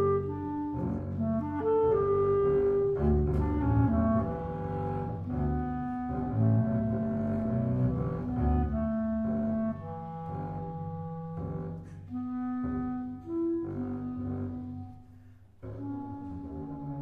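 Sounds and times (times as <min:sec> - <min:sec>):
bowed double bass: 0:00.0 - 0:17.0
clarinet playing held notes: 0:00.0 - 0:17.0.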